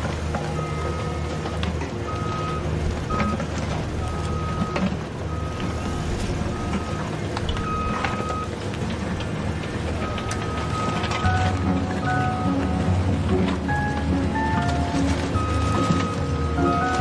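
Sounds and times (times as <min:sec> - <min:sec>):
vehicle reversing beeper: 0:00.0 - 0:12.6, 0:14.4 - 0:17.0
low engine rumble: 0:00.0 - 0:17.0.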